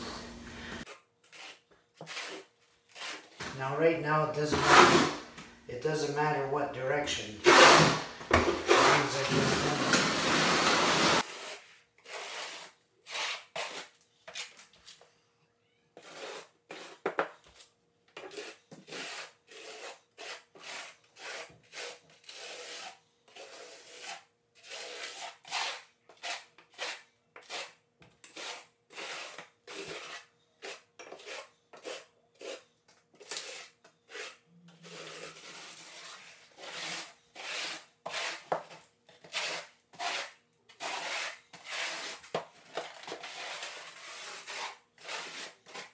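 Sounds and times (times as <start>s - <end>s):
trowel scraping mortar: 0.8s - 3.5s, 4.4s - 5.2s, 7.4s - 14.6s, 16.0s - 17.6s, 18.2s - 45.9s.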